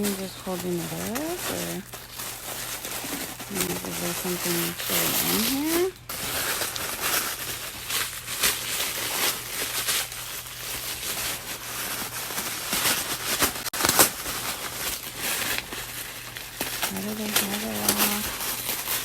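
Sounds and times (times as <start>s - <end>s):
packing material crinkling: 0.0s - 19.0s.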